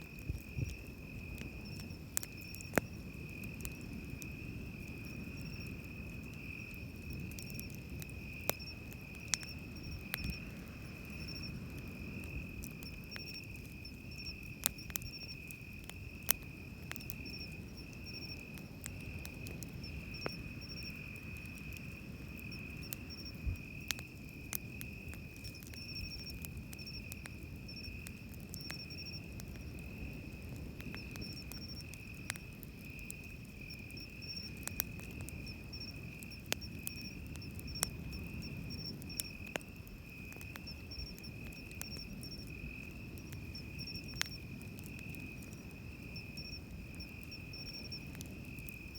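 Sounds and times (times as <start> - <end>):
campfire crackling: 0.0 - 48.9
insect chirping in bursts: 0.0 - 48.9.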